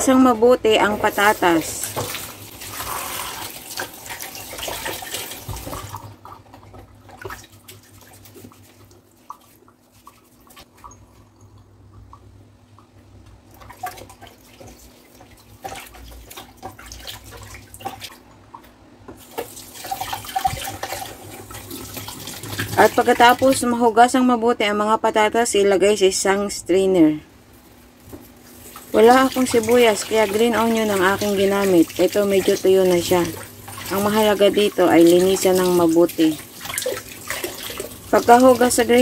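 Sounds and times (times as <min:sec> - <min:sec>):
potatoes being washed by hand: 0:00.0 - 0:11.3, 0:13.4 - 0:18.2, 0:19.1 - 0:24.1, 0:27.6 - 0:39.0
kitchen tap running: 0:00.0 - 0:12.3, 0:13.2 - 0:18.2, 0:19.1 - 0:23.8, 0:28.0 - 0:39.0.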